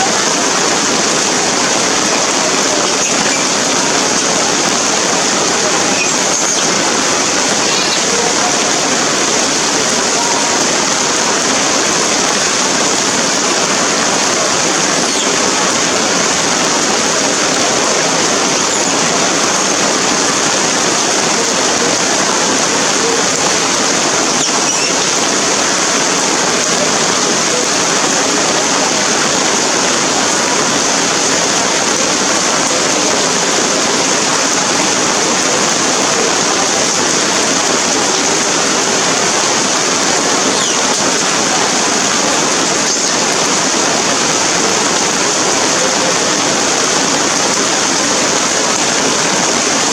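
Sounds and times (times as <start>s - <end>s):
rain falling steadily: 0.0s - 49.9s.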